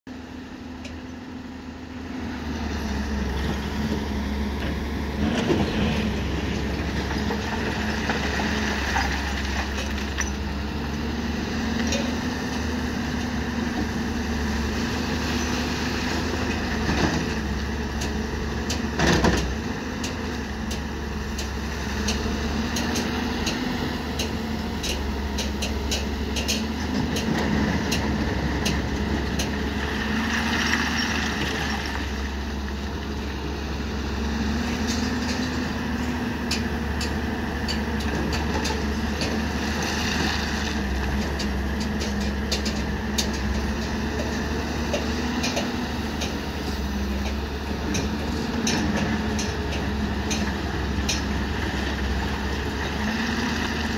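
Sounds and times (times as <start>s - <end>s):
excavator diesel engine running: 0.1s - 53.9s.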